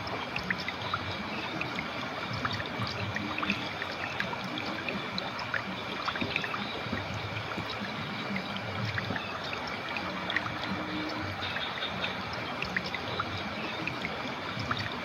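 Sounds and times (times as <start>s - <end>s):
river water flowing: 0.0s - 15.0s
water bubbling and trickling: 0.0s - 15.0s.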